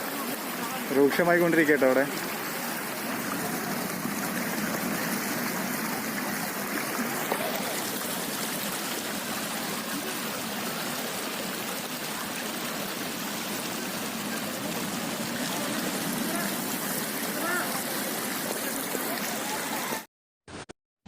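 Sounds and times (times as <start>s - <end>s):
floodwater rushing: 0.0s - 20.1s.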